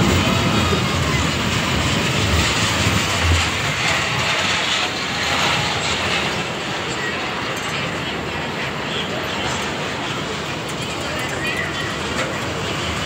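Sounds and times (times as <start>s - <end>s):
ride train rumbling on steel track: 0.0s - 13.0s.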